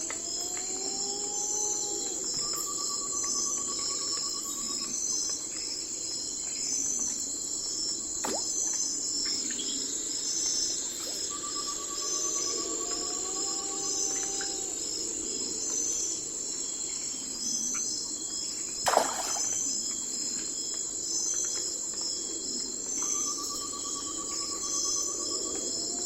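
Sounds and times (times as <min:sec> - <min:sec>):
crickets and insects chirping: 0:00.0 - 0:26.0.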